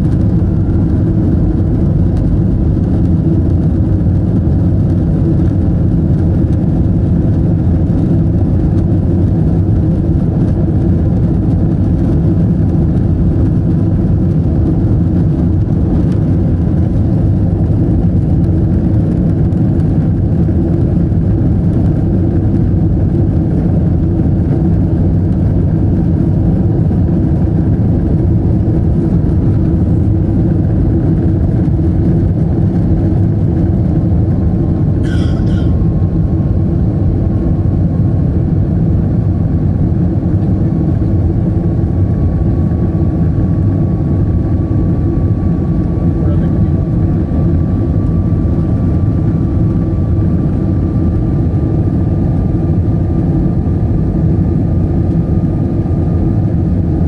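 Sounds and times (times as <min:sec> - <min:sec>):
aircraft cabin engine rumble: 0:00.0 - 0:57.0
faint steady whine: 0:00.0 - 0:57.0.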